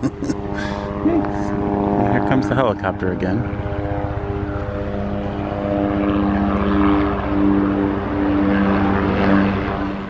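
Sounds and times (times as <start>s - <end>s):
helicopter engine drone: 0.0s - 10.0s
helicopter rotor chop: 0.0s - 10.0s.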